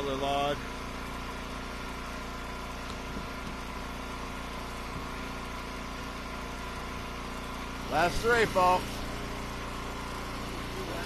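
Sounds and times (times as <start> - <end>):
gasoline engine running steadily: 0.0 - 11.0.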